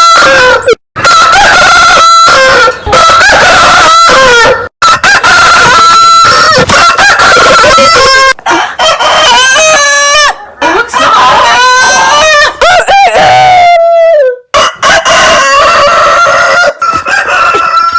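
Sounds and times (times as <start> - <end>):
rooster crowing: 0.0 - 17.9.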